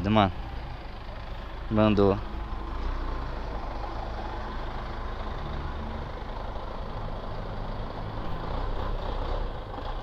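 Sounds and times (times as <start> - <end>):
street noise: 0.0 - 10.0
vehicle engine idling: 0.0 - 10.0.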